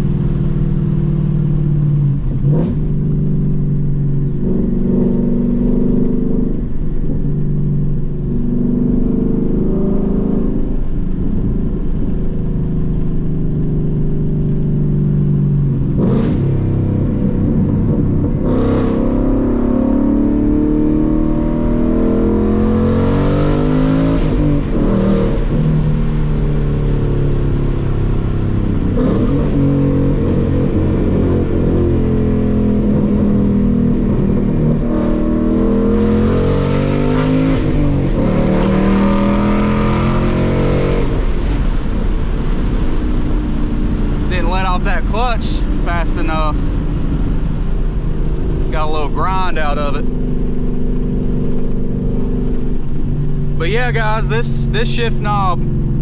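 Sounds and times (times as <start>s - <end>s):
car engine revving while driving: 0.0s - 56.0s.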